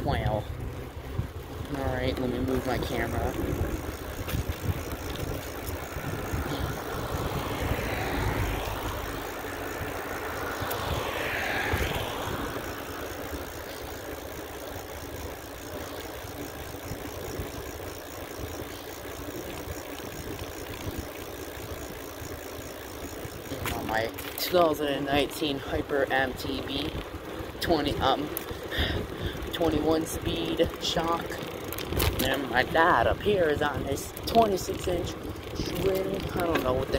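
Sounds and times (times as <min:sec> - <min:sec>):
low traffic rumble: 0:00.0 - 0:36.9
vehicles passing: 0:00.0 - 0:36.9.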